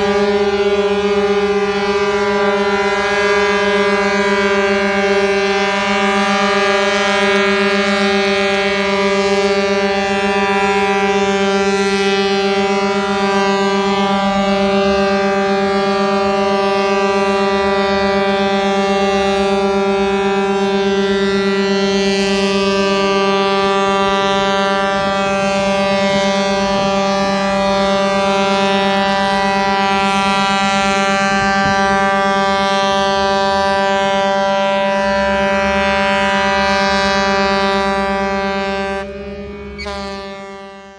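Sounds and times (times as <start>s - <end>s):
ship's horn long blast: 0.0s - 40.9s.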